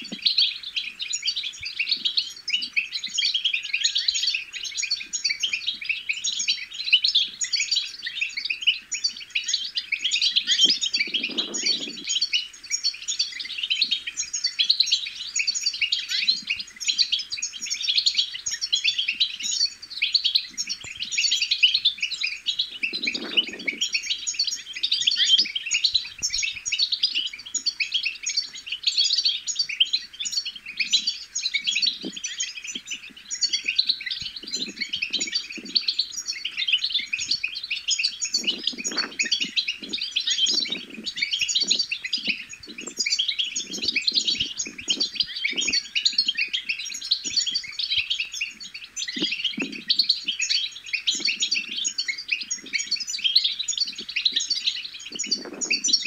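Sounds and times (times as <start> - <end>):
goldfinch twittering: 0.0 - 56.0.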